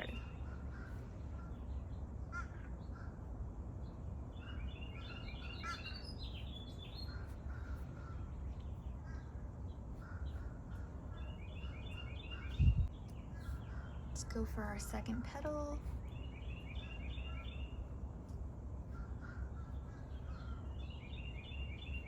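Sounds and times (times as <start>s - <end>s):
birds chirping and trilling: 0.0s - 22.0s
steady low hum: 0.0s - 22.0s.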